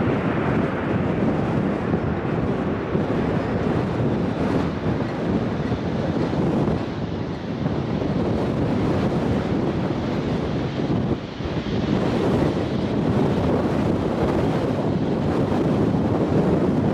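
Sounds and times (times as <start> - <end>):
strong wind buffeting microphone: 0.0 - 16.9.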